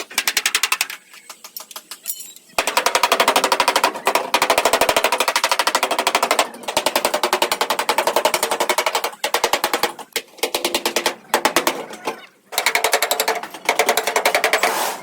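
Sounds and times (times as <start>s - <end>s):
rapid hammering on sheet metal: 2.6s - 15.0s.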